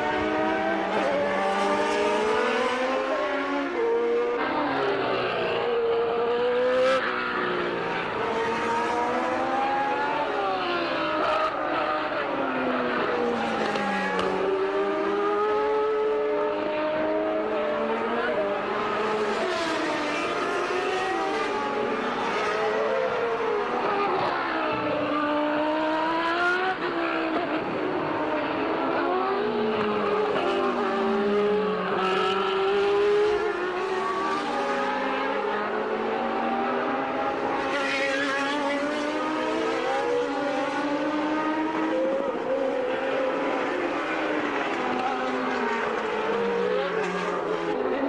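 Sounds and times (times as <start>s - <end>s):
racing car engines passing: 0.0s - 48.0s.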